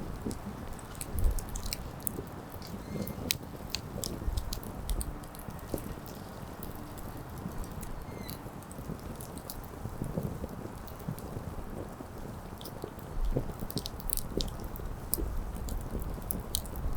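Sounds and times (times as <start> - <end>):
campfire crackling and popping: 0.0 - 16.9.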